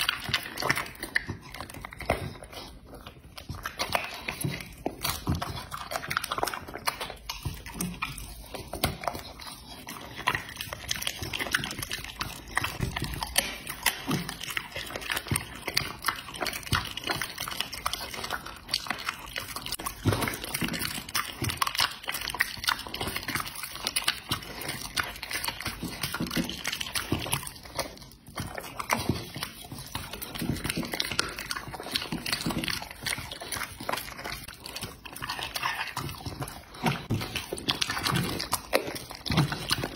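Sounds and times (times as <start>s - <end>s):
dog chewing meat: 0.0s - 39.9s.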